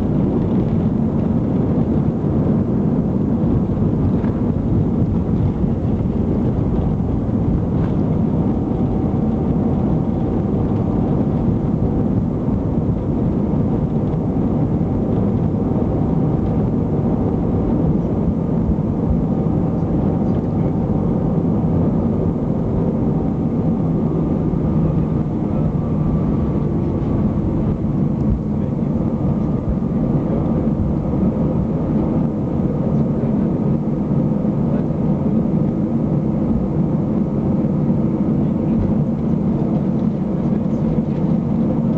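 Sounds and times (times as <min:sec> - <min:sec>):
airplane cabin rumble: 0:00.0 - 0:41.9.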